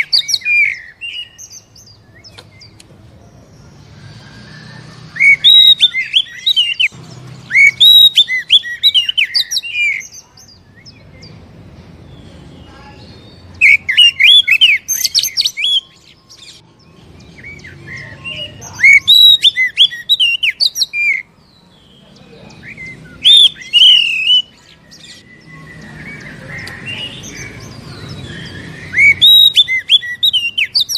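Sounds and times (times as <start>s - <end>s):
bird chirping and whistling: 0.0s - 2.8s, 3.4s - 11.4s, 13.1s - 16.6s, 17.2s - 21.3s, 22.6s - 30.9s.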